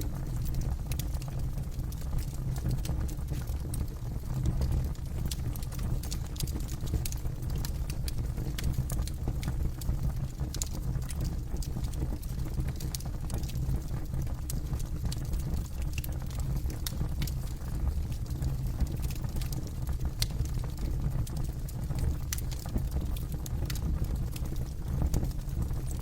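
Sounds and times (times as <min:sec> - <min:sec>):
campfire flames rumbling: 0:00.0 - 0:26.0
wood crackling and popping: 0:00.0 - 0:26.0.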